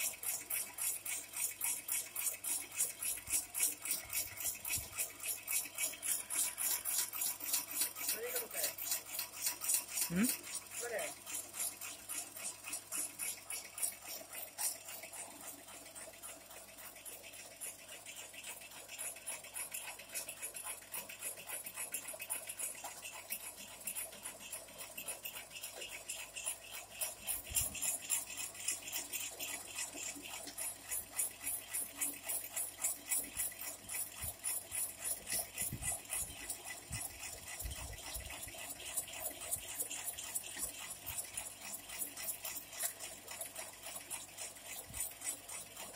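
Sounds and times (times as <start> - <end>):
blades ticking: 0.0 - 45.9
slicer motor hum: 0.0 - 45.9.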